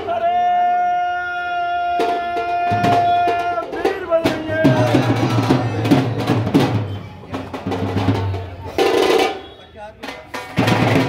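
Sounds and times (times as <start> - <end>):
drum strikes: 1.9 - 11.0.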